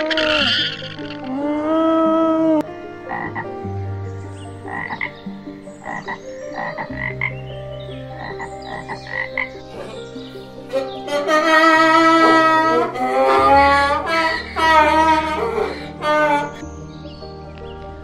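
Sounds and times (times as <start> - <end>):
frogs croaking: 0.0 - 18.0.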